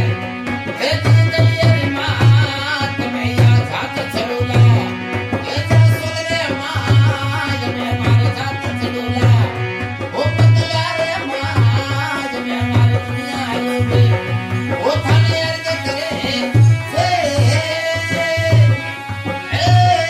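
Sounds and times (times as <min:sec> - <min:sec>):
hand drum accompaniment: 0:00.0 - 0:20.0
person singing devotional song: 0:00.0 - 0:20.0.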